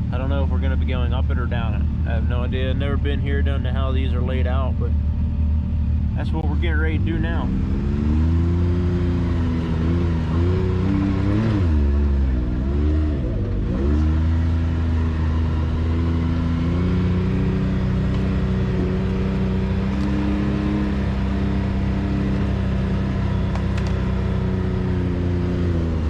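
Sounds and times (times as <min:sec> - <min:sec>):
utility vehicle engine revving: 0:00.0 - 0:26.0.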